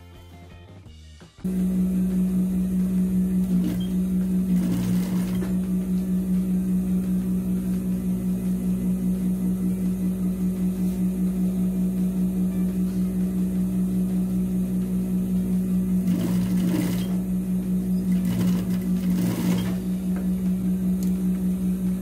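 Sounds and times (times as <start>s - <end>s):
sewing machine humming: 1.4s - 22.0s.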